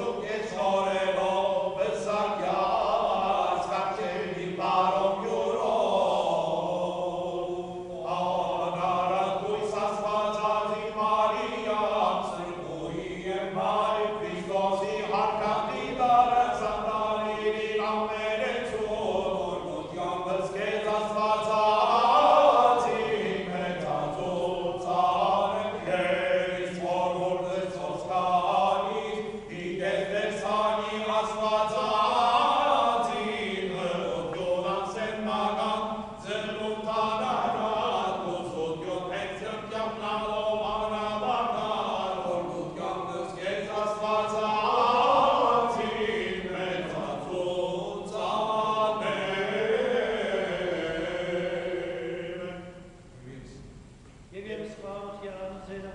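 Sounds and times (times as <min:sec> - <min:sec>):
men's choir chanting a hymn: 0:00.0 - 0:53.6, 0:54.3 - 0:55.9.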